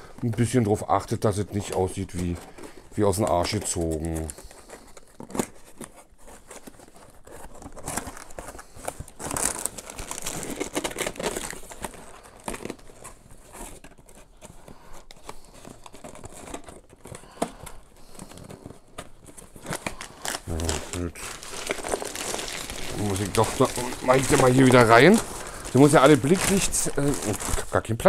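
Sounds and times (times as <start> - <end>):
plastic bags crinkling: 0.0 - 28.0.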